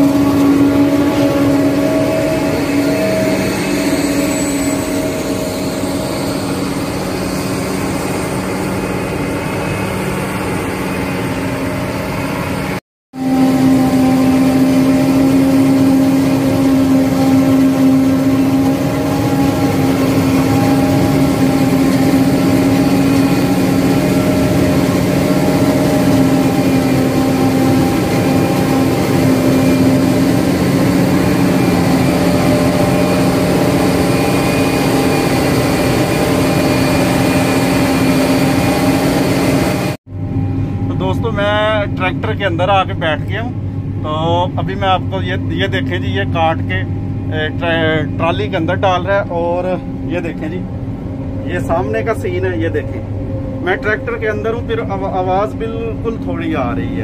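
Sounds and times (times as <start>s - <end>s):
forage harvester droning: 0.0s - 57.0s.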